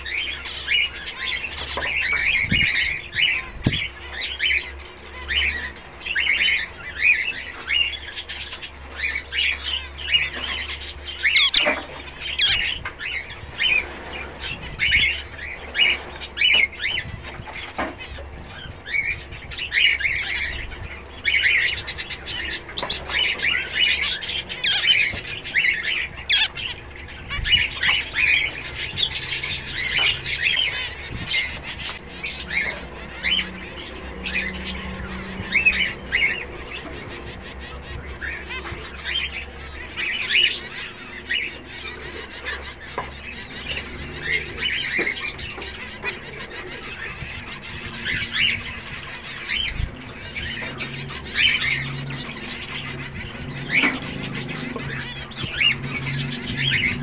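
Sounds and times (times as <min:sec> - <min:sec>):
finches chirping: 0:00.0 - 0:57.0.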